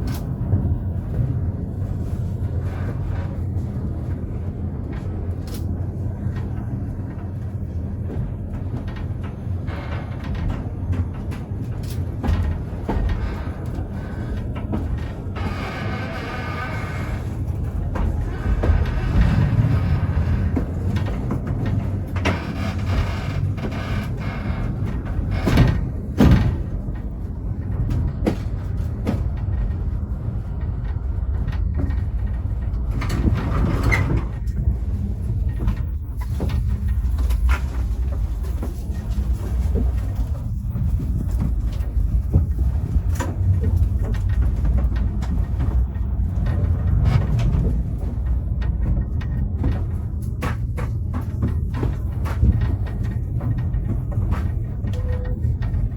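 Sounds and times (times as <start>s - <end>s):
train carriage rumbling on track: 0.0s - 55.9s
knocks and rattles: 7.2s - 55.9s.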